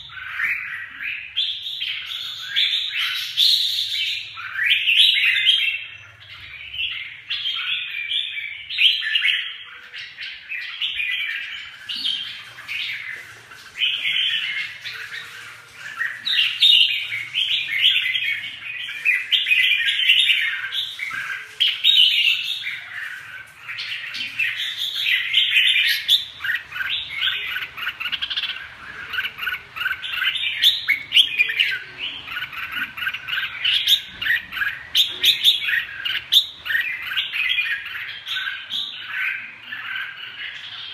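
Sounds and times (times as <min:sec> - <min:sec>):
caged birds singing: 0:00.0 - 0:40.9.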